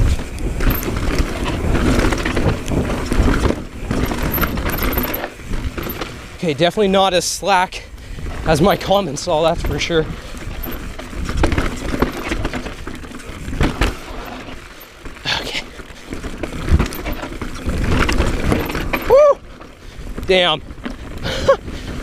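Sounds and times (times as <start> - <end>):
bike parts rattling: 0.0 - 7.4, 8.0 - 22.0
bike tyres skidding over rock: 0.0 - 22.0.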